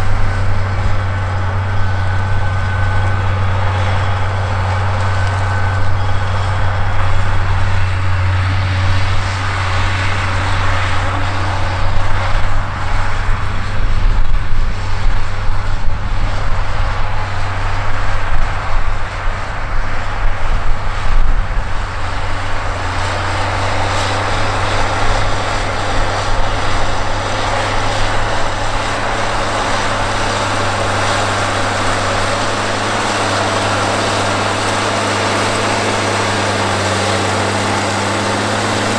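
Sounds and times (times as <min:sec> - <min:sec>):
tractor diesel engine drone: 0:00.0 - 0:38.9.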